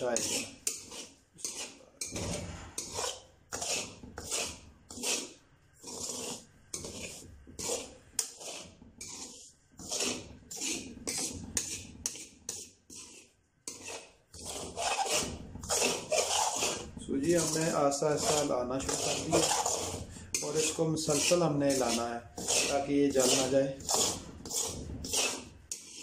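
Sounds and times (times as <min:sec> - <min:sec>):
metal ladle scraping semolina: 0:00.0 - 0:26.0.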